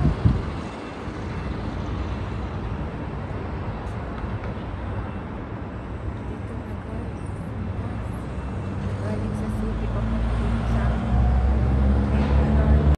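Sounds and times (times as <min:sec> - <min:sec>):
distant traffic rumble and hiss: 0:00.0 - 0:12.9.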